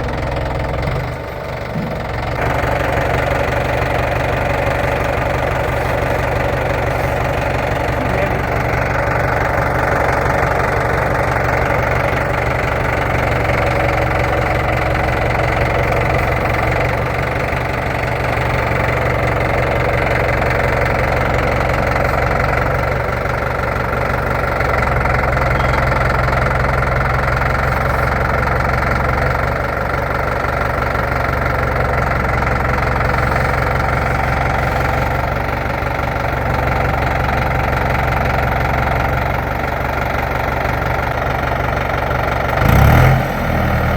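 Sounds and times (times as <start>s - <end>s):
car engine running at low revs: 0.0s - 29.4s, 31.5s - 38.2s, 42.4s - 43.9s.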